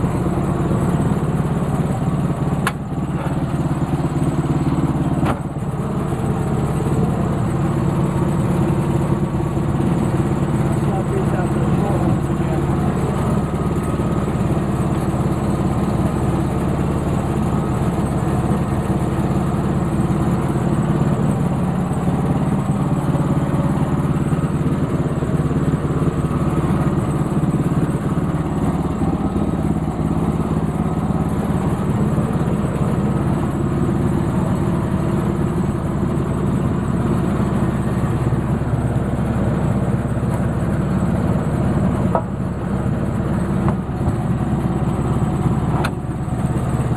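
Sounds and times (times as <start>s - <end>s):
sawmill engine running: 0.0s - 46.9s.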